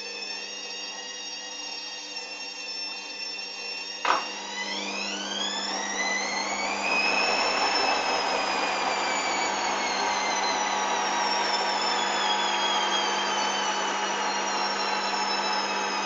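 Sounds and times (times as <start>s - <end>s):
washing machine motor whining: 0.0s - 16.0s.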